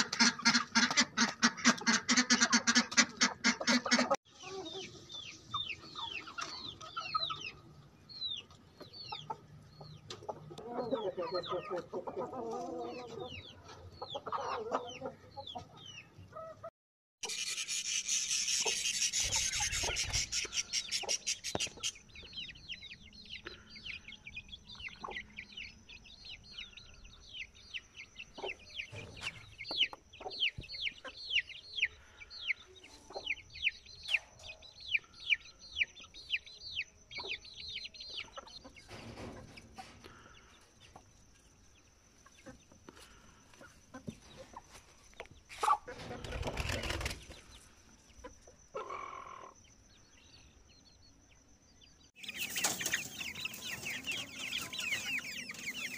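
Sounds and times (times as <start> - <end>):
hens clucking: 0.0 - 26.8, 27.4 - 35.3, 42.2 - 49.6, 52.2 - 55.9
chicks peeping: 0.0 - 55.9.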